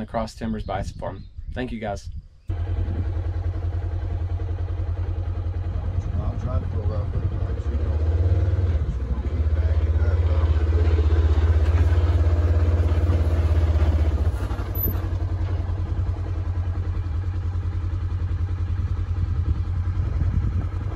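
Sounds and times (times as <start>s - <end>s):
vehicle engine idling: 2.5s - 20.9s.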